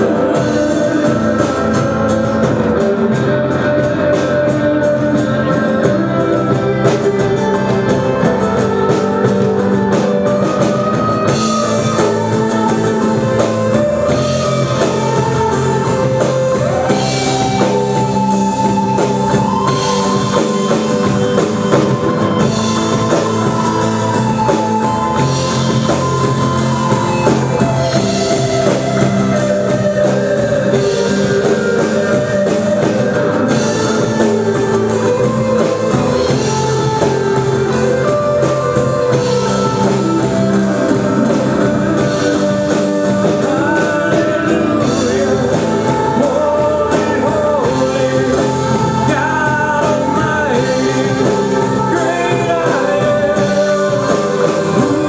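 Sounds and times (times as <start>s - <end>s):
live rock band: 0.0s - 55.0s.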